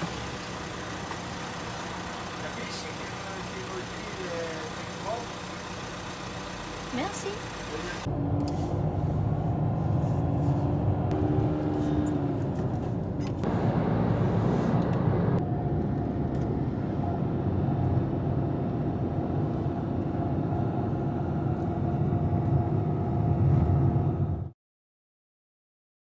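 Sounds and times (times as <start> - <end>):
car engine and tyre rumble: 0.0 - 24.5.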